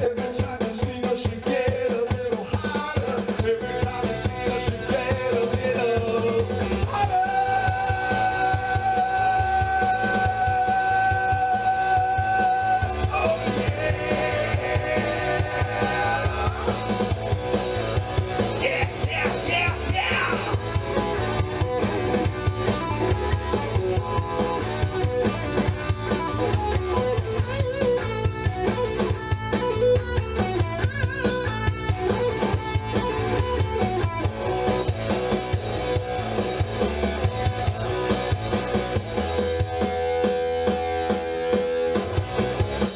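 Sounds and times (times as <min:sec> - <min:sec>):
drum kit beat: 0:00.0 - 0:42.9
rock guitar playing: 0:00.0 - 0:42.9.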